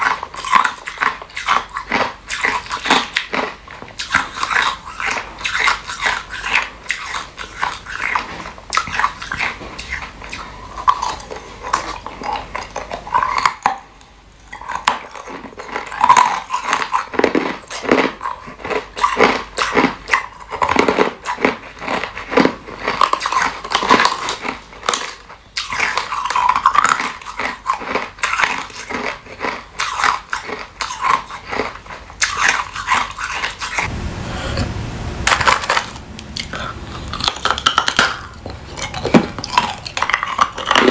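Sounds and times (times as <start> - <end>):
ice crunching between teeth: 0.0 - 13.9, 14.5 - 33.9, 35.3 - 40.9.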